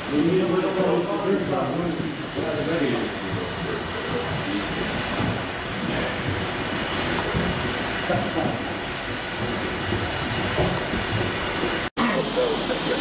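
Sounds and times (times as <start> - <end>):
brewhouse machinery hiss and rumble: 0.0 - 13.0.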